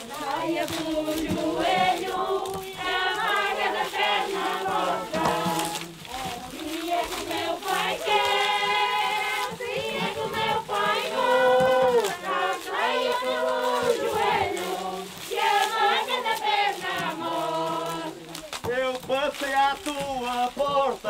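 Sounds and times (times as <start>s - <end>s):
group singing in chorus: 0.0s - 18.3s.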